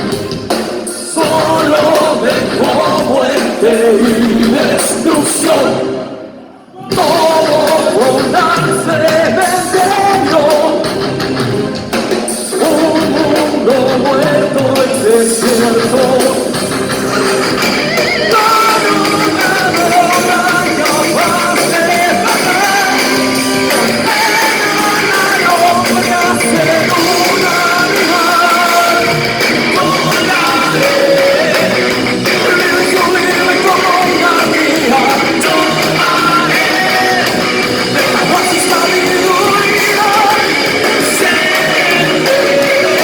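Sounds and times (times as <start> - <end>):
electric guitar: 0.0 - 43.0
lead vocal singing: 0.8 - 43.0.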